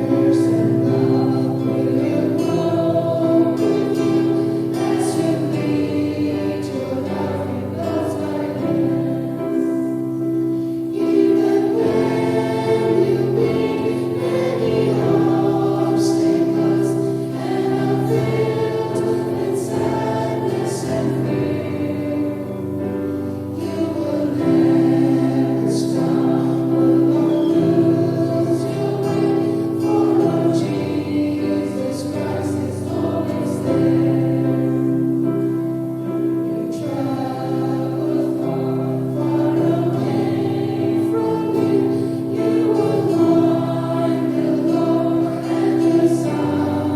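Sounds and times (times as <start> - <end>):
choir singing a hymn: 0.0 - 46.9.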